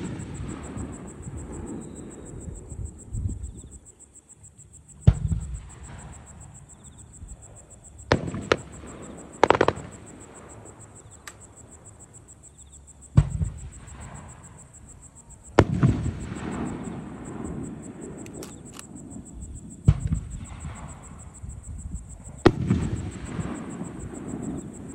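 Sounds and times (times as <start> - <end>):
distant firework booms: 0.0 - 3.6, 5.0 - 10.8, 13.1 - 24.9.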